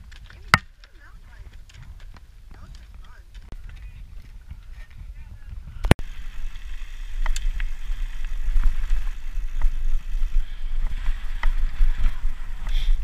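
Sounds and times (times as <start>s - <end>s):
bike clicks and rattles: 0.0s - 5.0s, 5.9s - 13.0s
tyre noise on dirt trail: 0.0s - 13.0s
wind rumbling on microphone: 0.0s - 13.0s.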